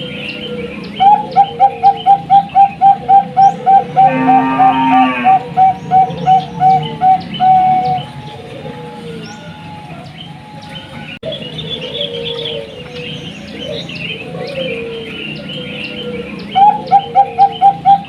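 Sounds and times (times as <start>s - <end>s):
small birds chirping: 0.0s - 4.2s, 5.1s - 18.0s
dove cooing: 0.0s - 18.0s.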